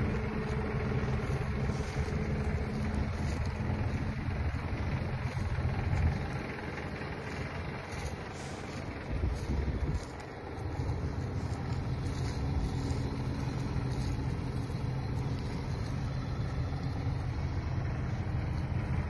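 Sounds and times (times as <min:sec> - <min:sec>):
tractor diesel engines rumbling: 0:00.0 - 0:19.0.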